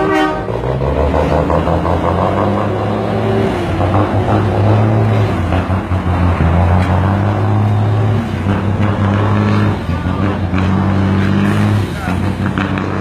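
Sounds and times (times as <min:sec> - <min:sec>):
dump truck diesel engine: 0:00.0 - 0:13.0.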